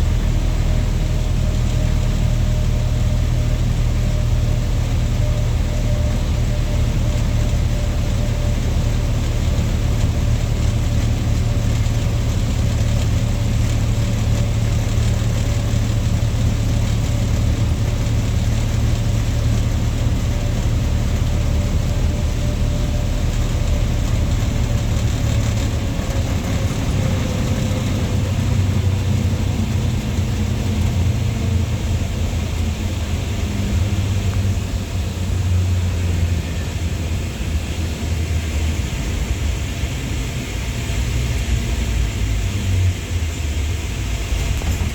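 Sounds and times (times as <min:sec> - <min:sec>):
lorry engine running: 0:00.0 - 0:44.9
road noise: 0:00.0 - 0:44.9.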